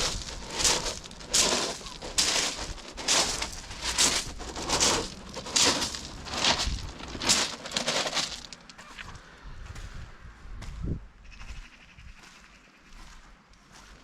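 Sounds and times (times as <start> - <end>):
crunching footsteps: 0.0 - 10.0, 10.6 - 14.0.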